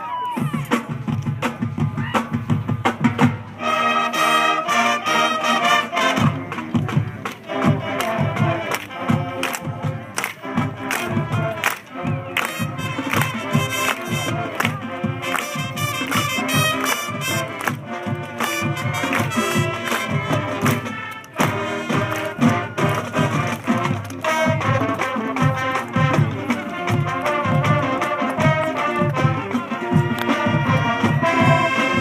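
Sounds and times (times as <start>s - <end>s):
marching band playing: 0.2s - 32.0s.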